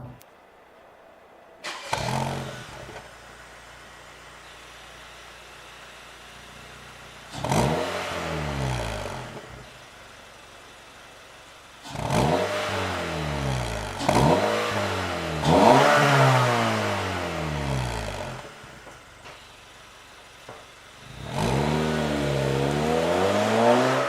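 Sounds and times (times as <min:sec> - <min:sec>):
car engine revving: 0:01.6 - 0:24.0.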